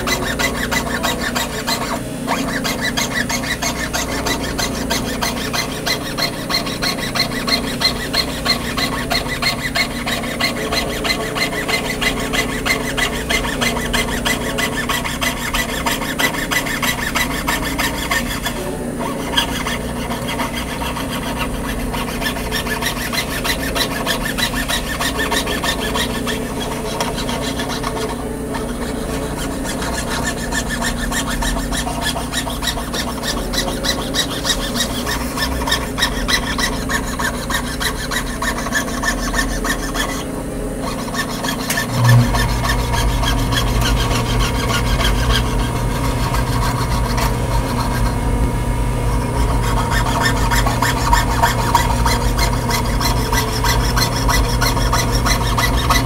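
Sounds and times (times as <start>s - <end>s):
saw blade rasping through metal: 0.0s - 56.0s
steady low hum: 0.0s - 56.0s.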